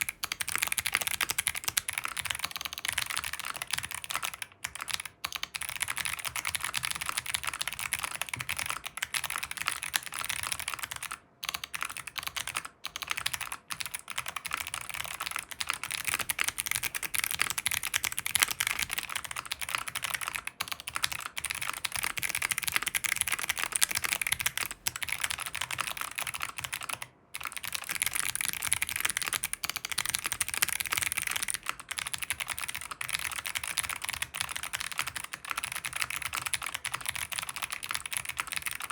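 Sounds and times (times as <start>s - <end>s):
clicky mechanical keyboard typing: 0.0s - 38.9s.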